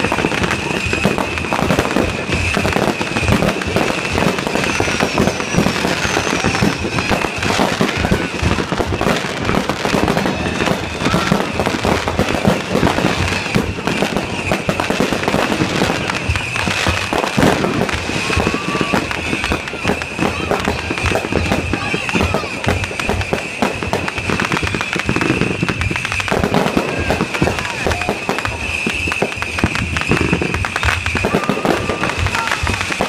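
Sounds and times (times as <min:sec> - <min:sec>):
firework whistles: 0:00.0 - 0:33.0
fireworks bangs and crackles: 0:00.0 - 0:33.0.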